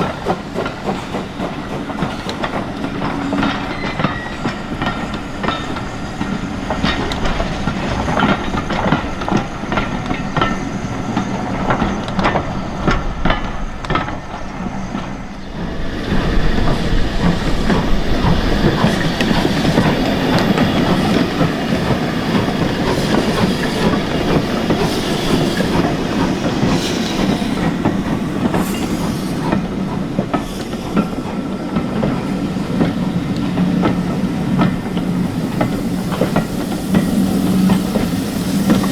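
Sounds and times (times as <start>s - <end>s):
train wheels clicking on rails: 0.0s - 38.9s.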